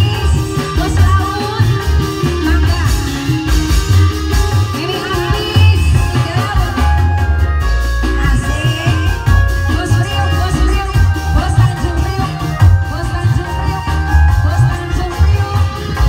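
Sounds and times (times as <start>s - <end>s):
woman singing into a microphone: 0.0s - 3.9s, 4.5s - 16.0s
live band playing: 0.0s - 16.0s.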